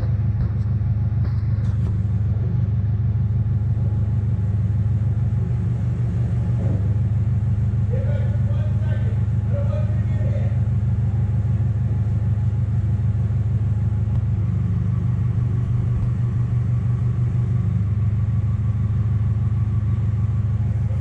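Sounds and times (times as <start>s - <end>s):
heavy engine rumbling: 0.0s - 21.0s.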